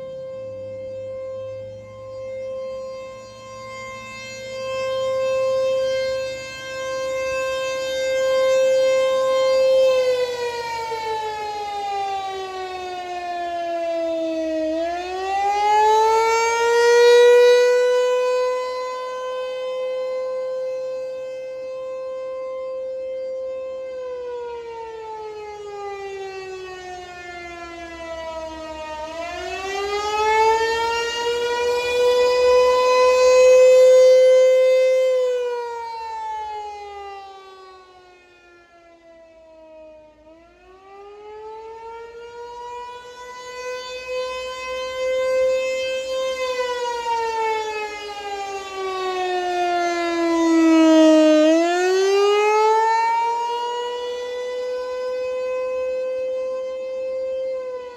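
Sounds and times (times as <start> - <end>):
rotating warning siren: 0.0 - 57.9.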